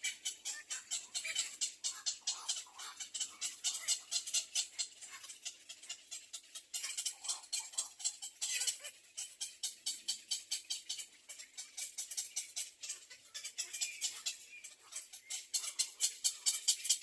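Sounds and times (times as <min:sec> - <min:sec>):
baby bird chirping: 0:00.0 - 0:17.0.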